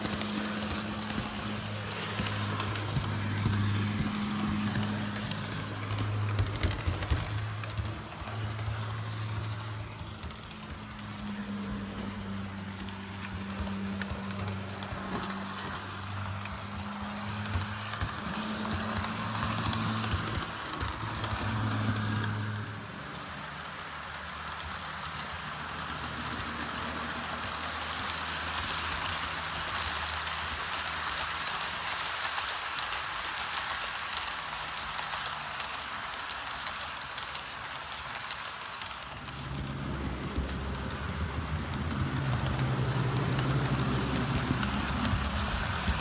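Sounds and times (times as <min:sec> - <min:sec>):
model train wheels clattering: 0:00.0 - 0:46.0.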